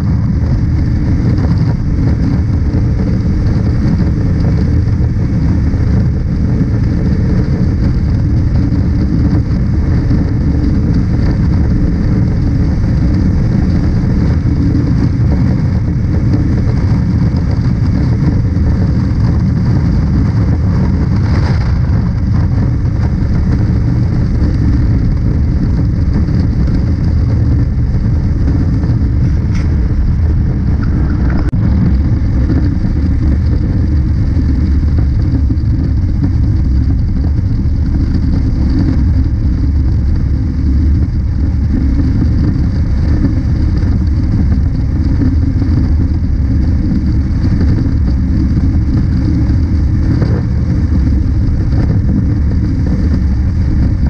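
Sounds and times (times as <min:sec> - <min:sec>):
motorcycle engine drone: 0:00.0 - 0:54.0
wind rushing over microphone: 0:00.0 - 0:54.0.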